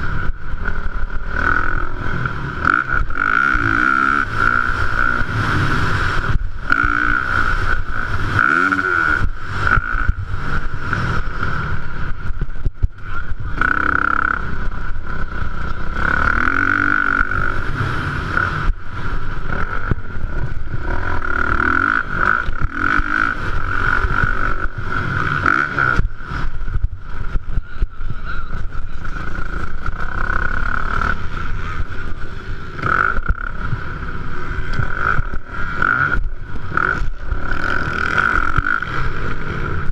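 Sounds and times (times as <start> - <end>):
high-pitched whine: 0.0 - 39.9
motocross bike engine revving: 0.0 - 39.9.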